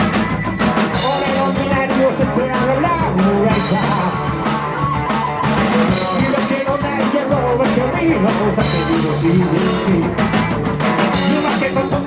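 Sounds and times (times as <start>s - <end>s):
bass guitar: 0.0s - 12.0s
drum kit: 0.0s - 12.0s
electric guitars: 0.0s - 12.0s.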